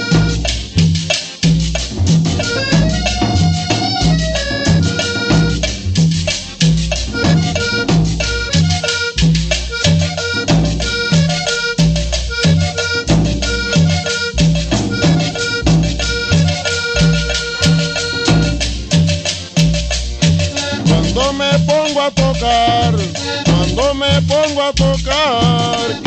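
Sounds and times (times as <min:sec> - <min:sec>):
accordion melody: 0:00.0 - 0:26.0
bass and percussion beat: 0:00.0 - 0:26.0.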